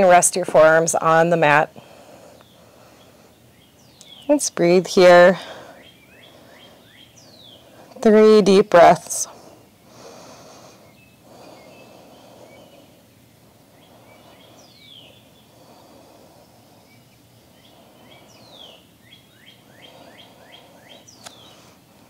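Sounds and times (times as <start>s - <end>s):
birds calling: 0.0s - 22.0s
slow deep breaths: 1.7s - 4.3s, 5.1s - 8.0s, 9.2s - 22.0s.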